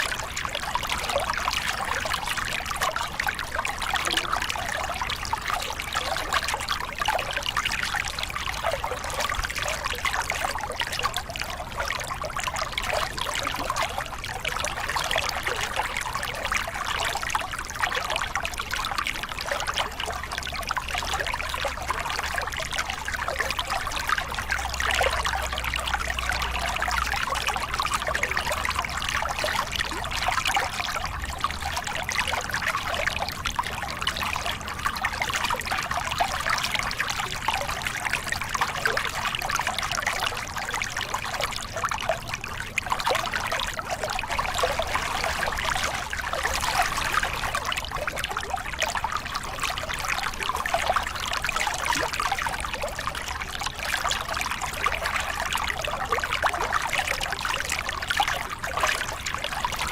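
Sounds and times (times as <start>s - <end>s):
bubbling trickle: 0.0s - 59.9s
water splashing over rocks: 0.0s - 59.9s.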